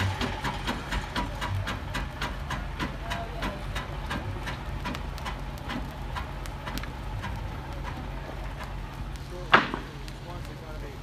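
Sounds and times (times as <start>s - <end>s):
steam engine exhaust beats: 0.0s - 11.0s.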